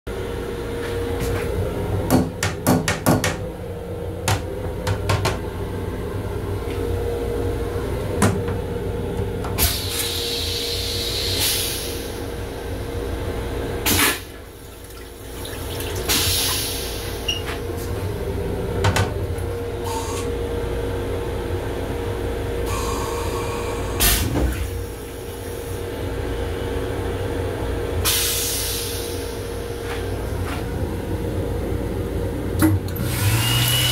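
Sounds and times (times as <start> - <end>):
railcar hum and rumble: 0.1 - 33.2.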